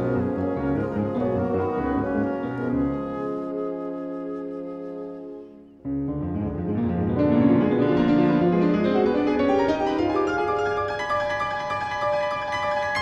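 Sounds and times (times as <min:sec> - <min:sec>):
piano and wind ensemble playing: 0:00.0 - 0:13.0.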